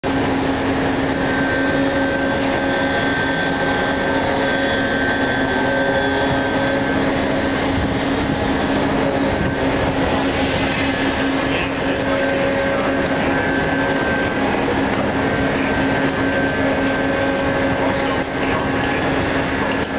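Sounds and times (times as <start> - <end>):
crane drive humming: 0.0 - 19.9.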